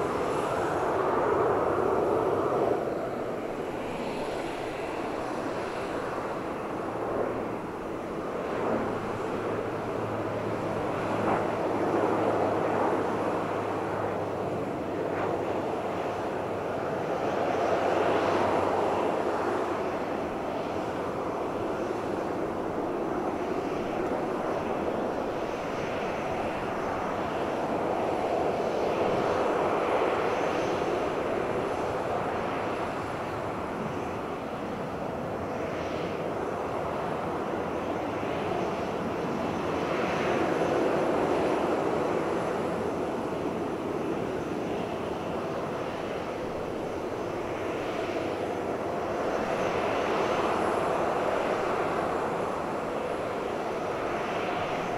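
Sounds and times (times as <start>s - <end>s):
jet engines humming: 0.0s - 54.9s.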